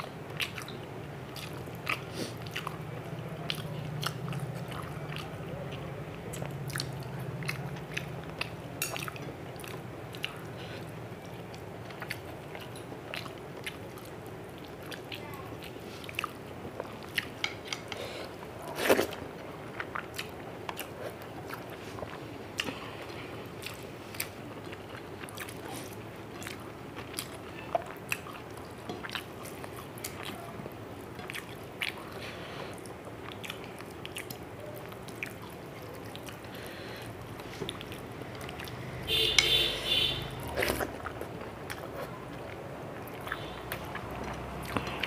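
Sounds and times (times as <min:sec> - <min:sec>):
chewing with mouth clicks: 0:00.0 - 0:45.0.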